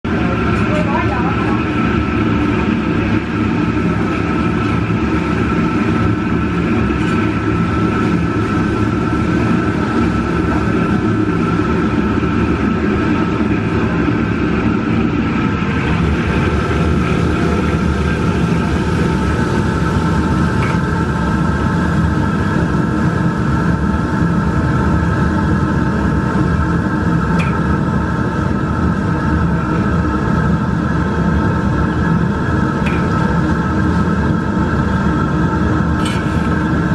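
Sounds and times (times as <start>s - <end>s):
kitchen equipment mechanical drone: 0.0s - 36.9s.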